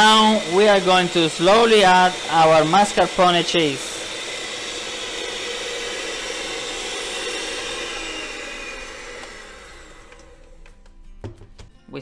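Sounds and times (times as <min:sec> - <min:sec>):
electric hand mixer whine: 0:00.0 - 0:11.7.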